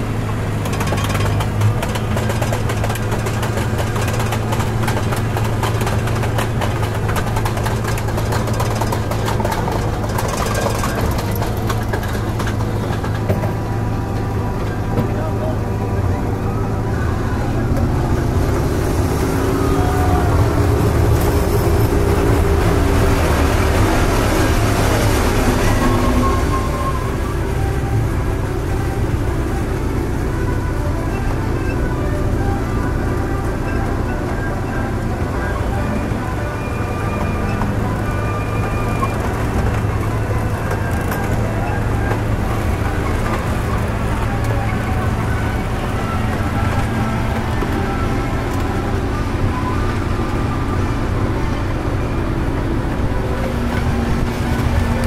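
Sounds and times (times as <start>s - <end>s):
ride train wheels rumbling on rails: 0.0s - 55.0s.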